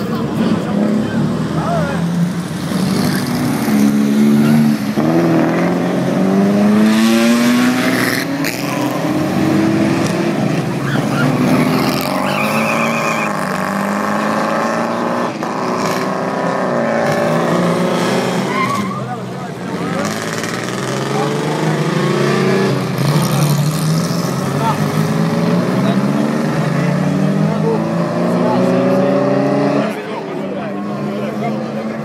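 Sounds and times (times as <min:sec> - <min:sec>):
hum of cars running: 0:00.0 - 0:32.0
racing car engines passing: 0:00.0 - 0:32.0.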